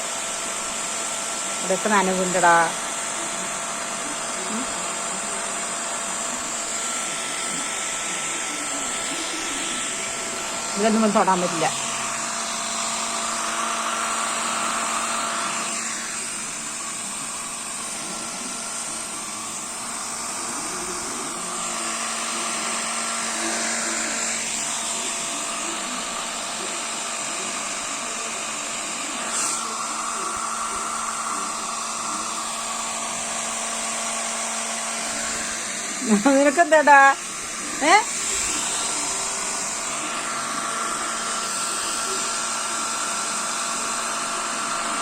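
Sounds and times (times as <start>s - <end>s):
hot-air blower whirring: 0.0s - 45.0s.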